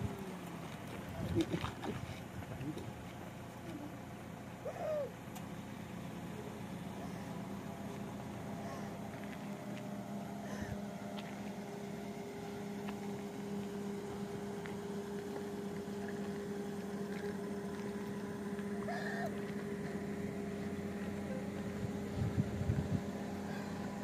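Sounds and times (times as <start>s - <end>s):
motor hum: 0.0s - 24.0s.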